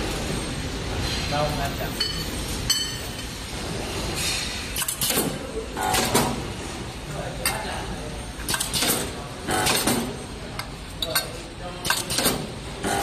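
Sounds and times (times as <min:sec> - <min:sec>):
factory background: 0:00.0 - 0:13.0.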